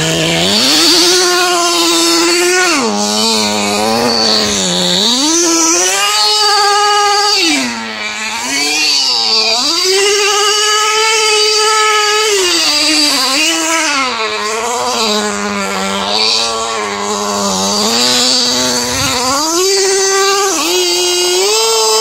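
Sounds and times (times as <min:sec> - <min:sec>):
rc car nitro engine revving: 0:00.0 - 0:22.0.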